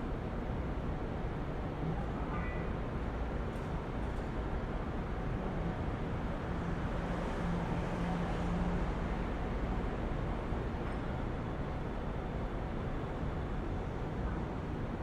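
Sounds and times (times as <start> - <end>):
traffic rumble and hiss: 0.0 - 15.0.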